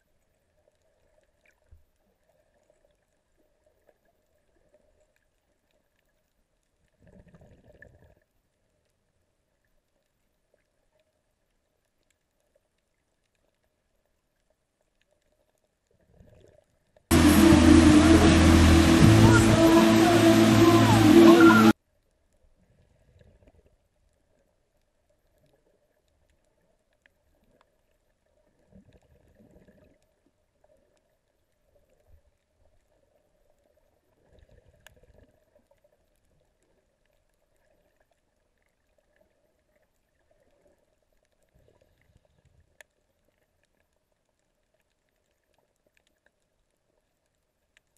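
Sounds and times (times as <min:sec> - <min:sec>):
faint underwater hum: 0:00.0 - 0:47.9.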